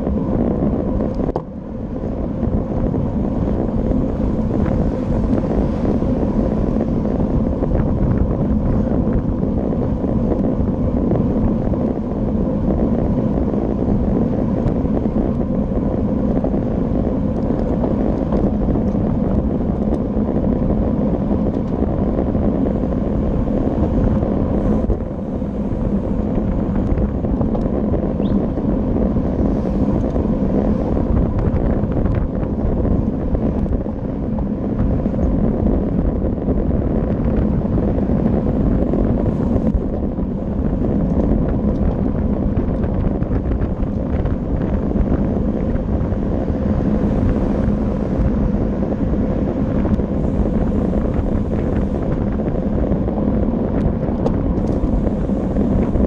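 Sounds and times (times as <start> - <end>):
tyres rumbling on tarmac: 0.0 - 56.0
wind buffeting microphone: 0.0 - 56.0.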